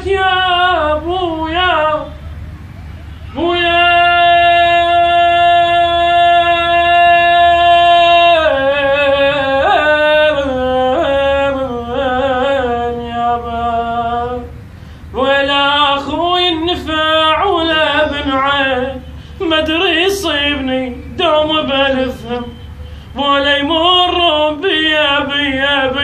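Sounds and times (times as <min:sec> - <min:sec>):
man singing a lament: 0:00.0 - 0:02.2, 0:03.3 - 0:22.6, 0:23.2 - 0:26.0.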